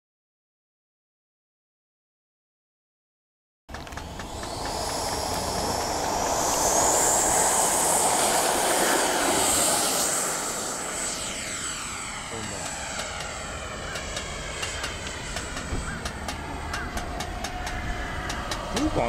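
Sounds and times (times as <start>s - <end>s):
electric ducted fans whining: 3.7s - 19.0s.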